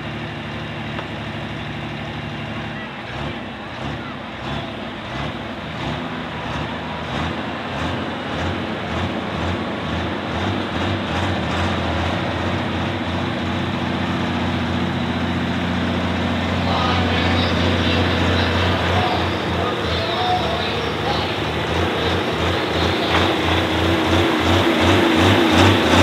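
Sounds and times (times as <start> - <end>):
tractor engine revving: 0.0 - 26.0.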